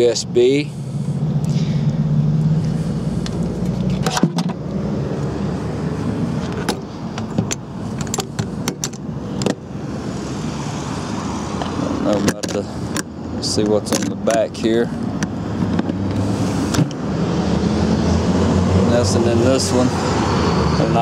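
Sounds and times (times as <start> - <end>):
low vehicle hum: 0.0 - 21.0.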